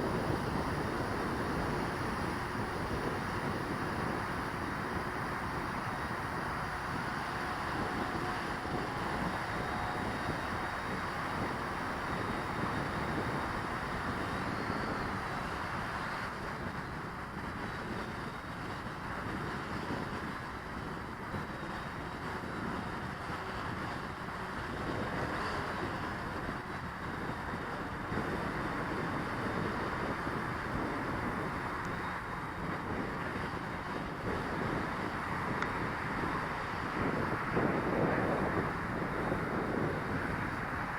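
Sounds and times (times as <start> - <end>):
quadcopter motors and propellers: 0.0 - 40.9
wind gusting over microphone: 0.0 - 40.9.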